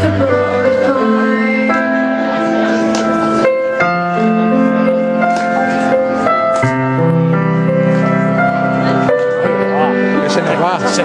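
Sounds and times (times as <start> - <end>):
slow chordal keyboard music: 0.0 - 11.0.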